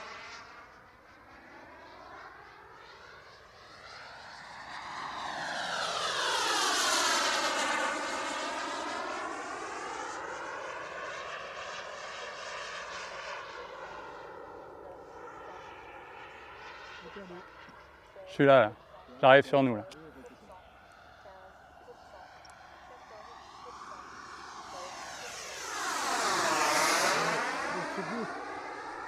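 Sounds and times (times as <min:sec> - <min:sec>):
model jet turbine flying past: 0:00.0 - 0:29.0.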